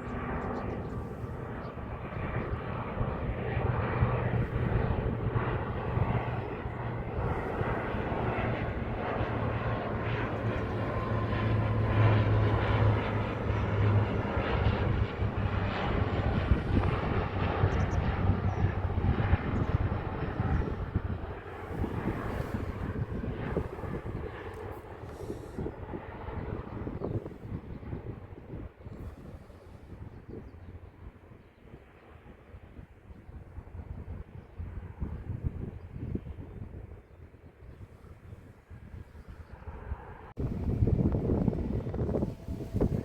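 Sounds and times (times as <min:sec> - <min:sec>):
airliner engines running: 0:00.0 - 0:43.0.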